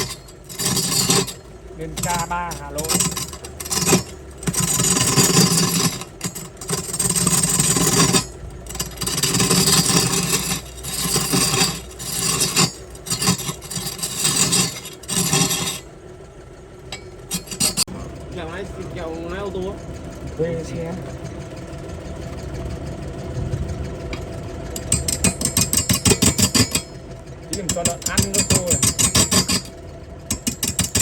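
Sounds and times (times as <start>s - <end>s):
lathe tool scraping wood: 0.0s - 16.2s, 16.9s - 19.7s, 24.0s - 31.0s.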